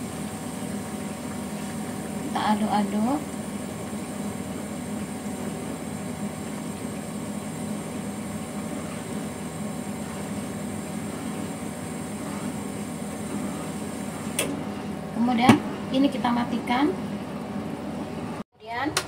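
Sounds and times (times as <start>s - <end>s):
liquid boiling with steady hiss: 0.0s - 18.4s.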